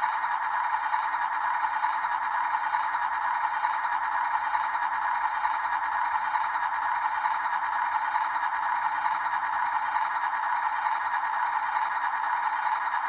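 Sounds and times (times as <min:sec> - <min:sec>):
toy truck motor and gears rattling: 0:00.0 - 0:13.0.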